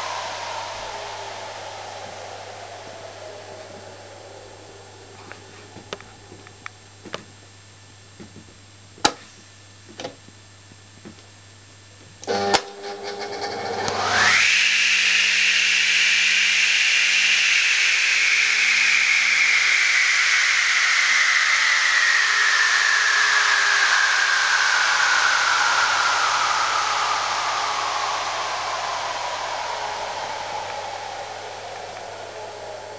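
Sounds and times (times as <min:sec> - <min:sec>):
saw motor whine: 0:00.0 - 0:06.6, 0:12.2 - 0:32.9
low hum: 0:00.0 - 0:08.9, 0:14.0 - 0:32.9.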